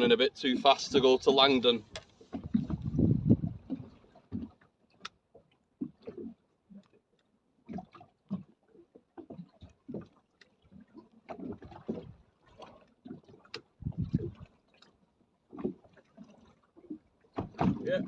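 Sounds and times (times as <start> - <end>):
water slapping against hull: 0.0 - 18.0.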